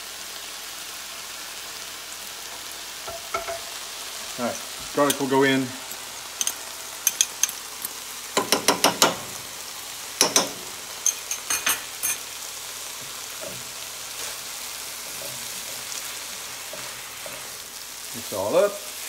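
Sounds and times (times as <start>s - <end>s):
food sizzling in skillet: 0.0s - 19.0s.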